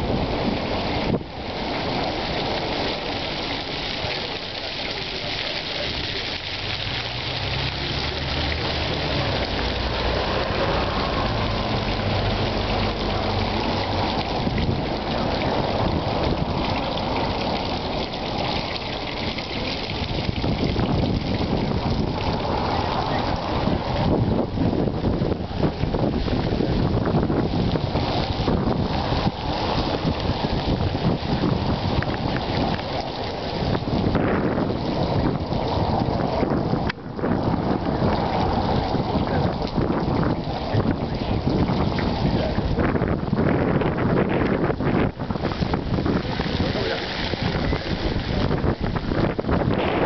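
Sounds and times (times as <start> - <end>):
fountain water splashing: 0.0 - 50.0.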